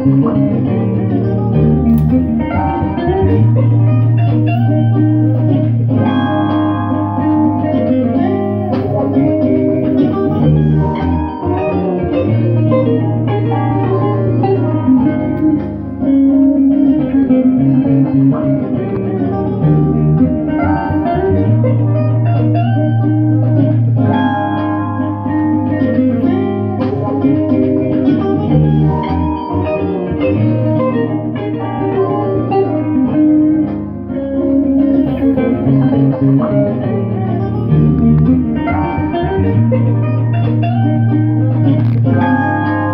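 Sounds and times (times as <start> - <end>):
electric guitar music: 0.0 - 42.9
low bass line: 0.0 - 42.9.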